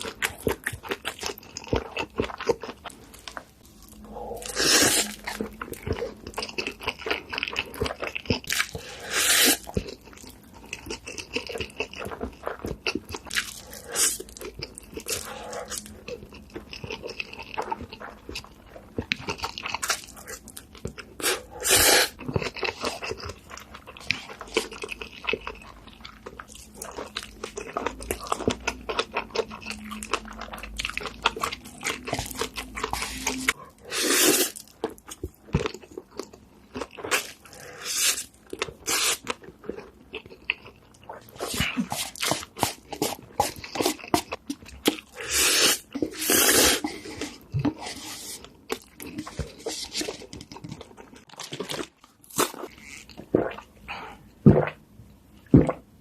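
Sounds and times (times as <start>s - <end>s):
chewing with sharp crunches: 0.0s - 54.8s.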